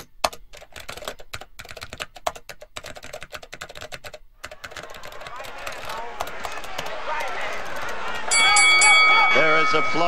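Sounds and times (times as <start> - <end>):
keys clicking as in typing: 0.0 - 8.4.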